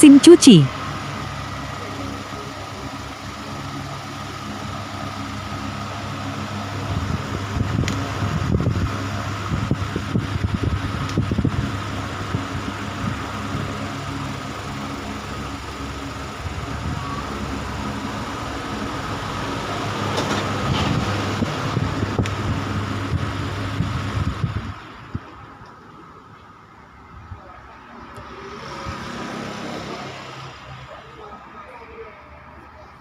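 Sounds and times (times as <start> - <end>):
electric fan motor hum and whine: 0.0 - 33.0.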